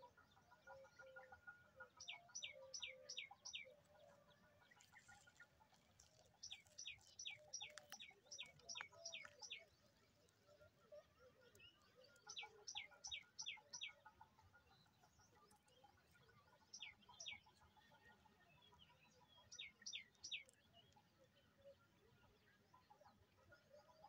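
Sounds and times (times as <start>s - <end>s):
bird chirping: 0.0s - 21.8s.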